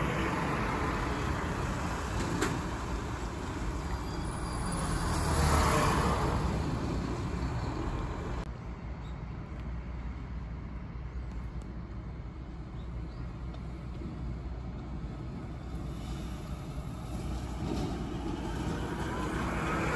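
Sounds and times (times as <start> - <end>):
vehicle passing on asphalt: 0.0 - 8.5, 9.5 - 19.9
low traffic rumble: 0.0 - 19.9.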